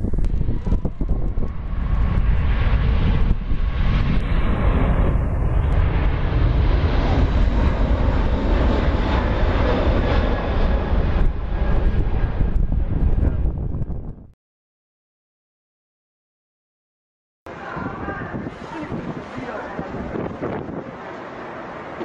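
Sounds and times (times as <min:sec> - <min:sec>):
jet engines rumbling: 0:00.0 - 0:14.3, 0:17.5 - 0:22.0.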